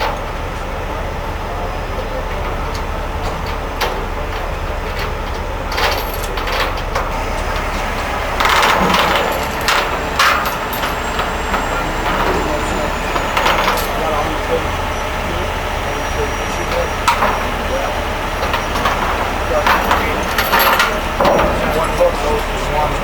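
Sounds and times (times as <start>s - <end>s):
diesel truck engine running: 0.0s - 23.0s
sharp knocks and clanks: 2.0s - 23.0s.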